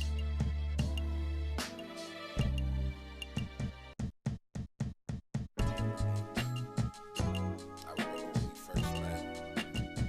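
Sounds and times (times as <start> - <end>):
music with bass and steady beat: 0.0 - 10.0.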